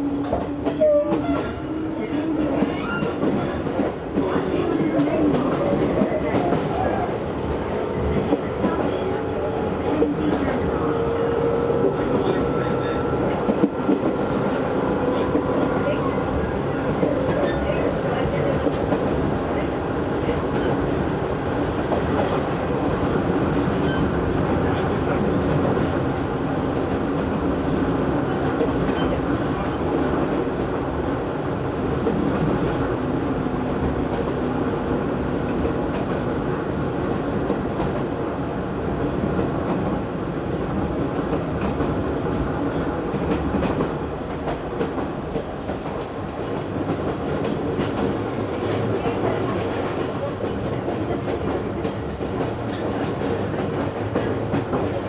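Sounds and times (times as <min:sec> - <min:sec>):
train running gear hum: 0:00.0 - 0:55.0
wheels rumbling on rail: 0:00.0 - 0:55.0.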